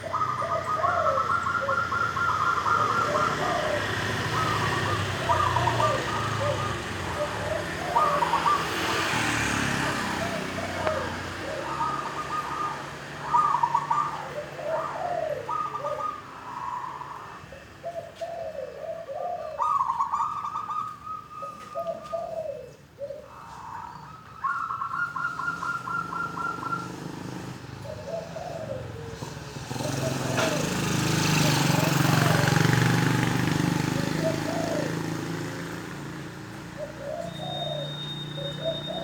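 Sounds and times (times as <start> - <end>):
dove cooing with rolling trill: 0.0 - 39.0.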